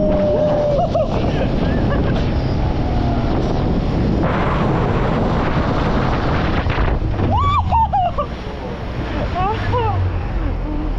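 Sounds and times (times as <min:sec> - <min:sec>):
boat motor running: 0:00.0 - 0:10.9
rushing noise: 0:00.0 - 0:10.9
wind buffeting microphone: 0:00.0 - 0:10.9.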